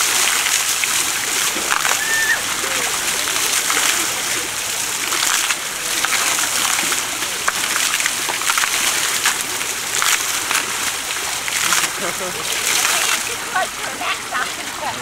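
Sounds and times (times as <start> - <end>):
water splashing on elephant: 0.0 - 15.0.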